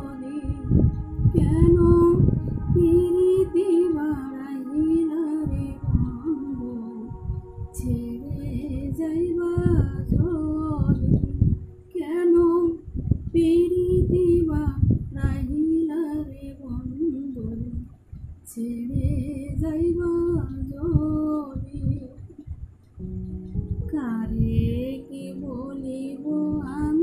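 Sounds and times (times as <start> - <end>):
woman singing: 0.0 - 12.8, 13.4 - 17.9, 18.5 - 22.3, 23.9 - 27.0
accompanying music: 0.0 - 27.0.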